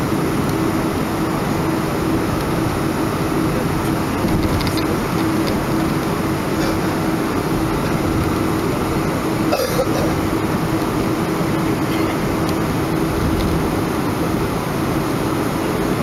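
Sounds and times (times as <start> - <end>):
airplane cabin engine hum: 0.0 - 16.0.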